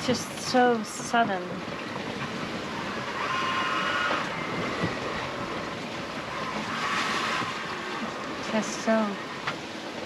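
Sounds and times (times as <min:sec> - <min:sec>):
rushing sea water: 0:00.0 - 0:10.0
wind: 0:00.0 - 0:10.0.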